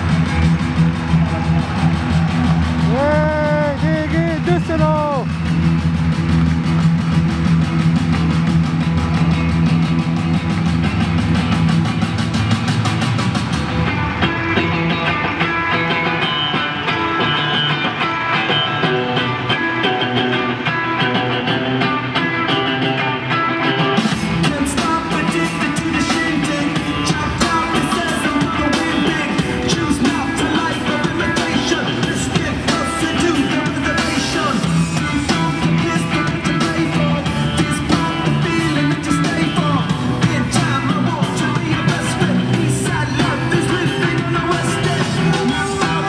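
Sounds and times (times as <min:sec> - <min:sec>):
rock music with singing: 0:00.0 - 0:46.0.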